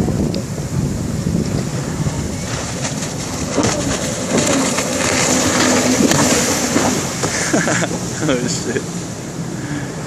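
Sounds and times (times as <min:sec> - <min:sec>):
wind on microphone: 0:00.0 - 0:08.5
water noise: 0:00.0 - 0:10.0
small boat engine running: 0:00.6 - 0:10.0.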